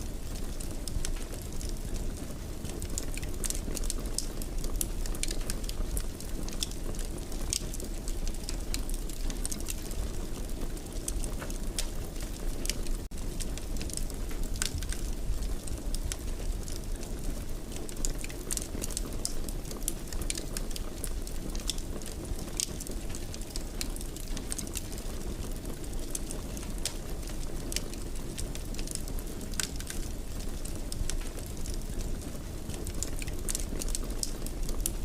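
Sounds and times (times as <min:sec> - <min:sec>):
low rumble of flames: 0:00.0 - 0:35.0
fire pops and snaps: 0:00.2 - 0:35.0.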